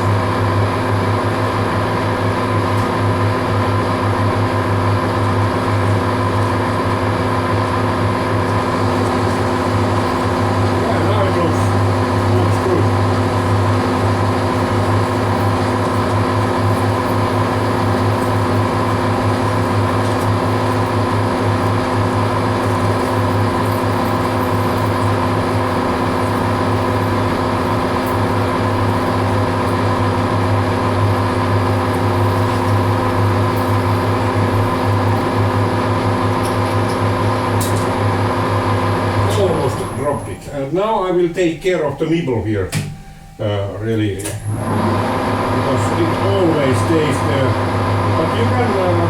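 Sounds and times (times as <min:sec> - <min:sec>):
metal lathe humming: 0:00.0 - 0:42.0, 0:44.2 - 0:49.0.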